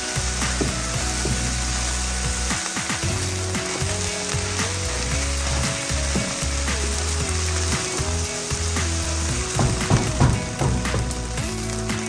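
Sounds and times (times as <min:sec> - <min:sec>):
rice sizzling in a hot pan: 0:00.0 - 0:12.0.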